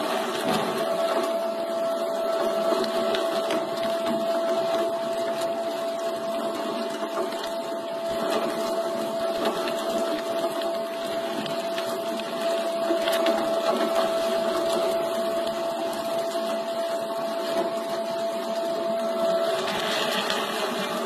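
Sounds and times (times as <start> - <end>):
electric meat grinder whining: 0.0 - 21.0.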